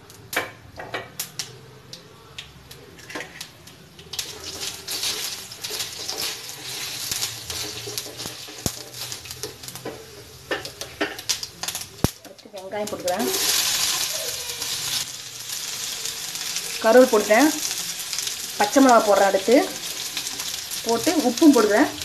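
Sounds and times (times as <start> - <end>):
seeds sizzling in hot oil: 2.7 - 22.0.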